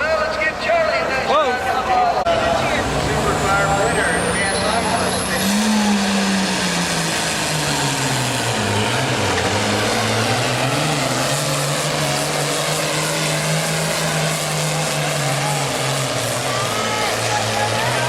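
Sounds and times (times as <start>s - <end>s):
tractor diesel engine running hard: 0.0s - 18.0s
loud rushing noise: 2.3s - 18.0s.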